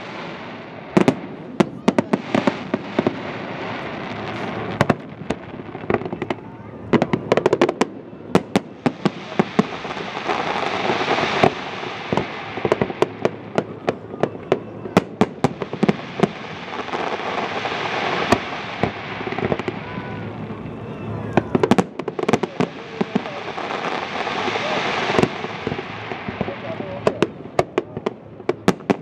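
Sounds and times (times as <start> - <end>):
fireworks bursting with sharp bangs: 0.0 - 29.0.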